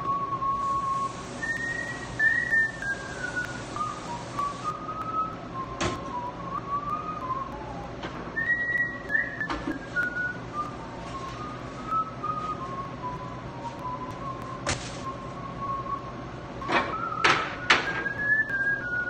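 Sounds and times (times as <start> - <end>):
person whistling a tune: 0.0 - 19.0.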